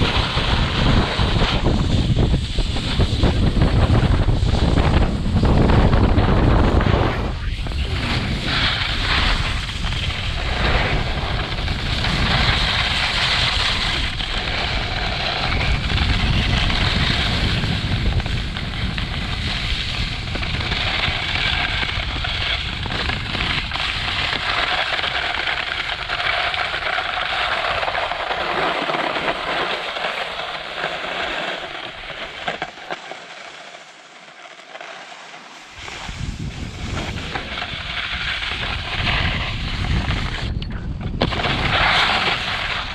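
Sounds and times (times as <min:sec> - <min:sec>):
wind rumbling on microphone: 0:00.0 - 0:29.5, 0:35.7 - 0:42.9
skiboards scraping over snow: 0:00.0 - 0:42.9.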